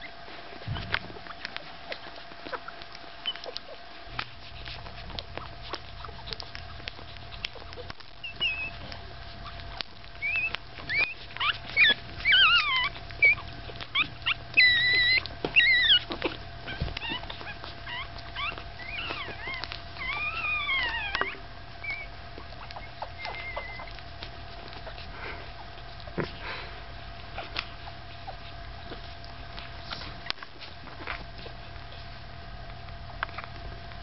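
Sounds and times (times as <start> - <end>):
puppies squeaking and whining: 0.0 - 34.0.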